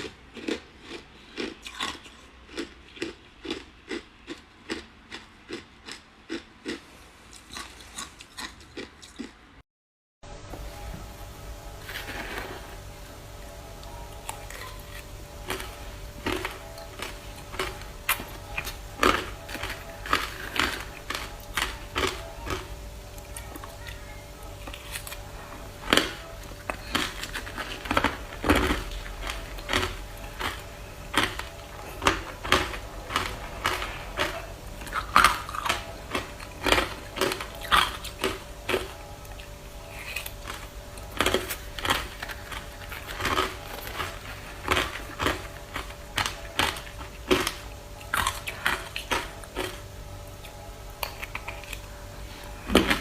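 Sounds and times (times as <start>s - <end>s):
faint steady hum: 10.2s - 53.0s.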